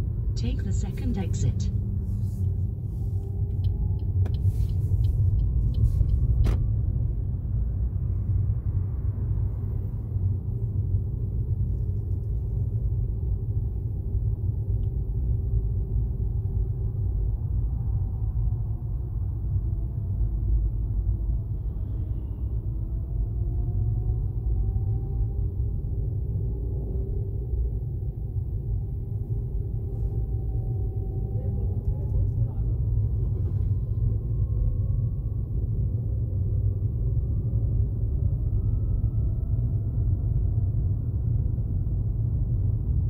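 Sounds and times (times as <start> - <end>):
car road rumble inside cabin: 0.0 - 43.0.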